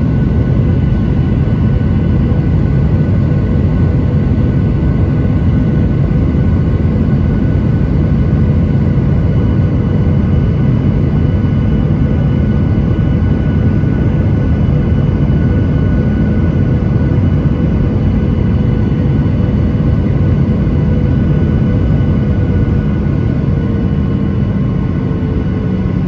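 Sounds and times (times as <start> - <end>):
jet airliner engines running: 0.0 - 26.0.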